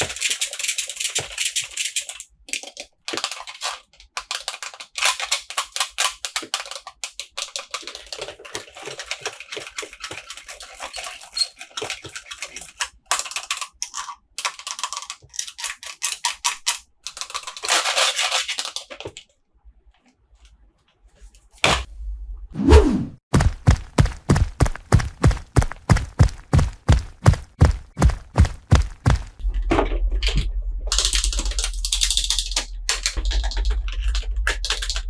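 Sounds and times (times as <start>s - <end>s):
packaging crackling and rustling: 0.0s - 19.4s, 23.3s - 29.4s, 30.9s - 35.0s.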